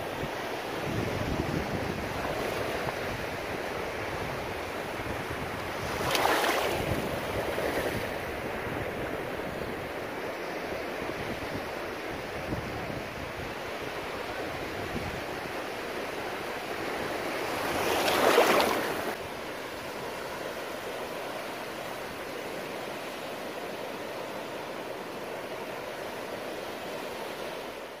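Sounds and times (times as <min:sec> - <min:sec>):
surf washing onto beach: 0:00.2 - 0:10.1, 0:15.2 - 0:27.8.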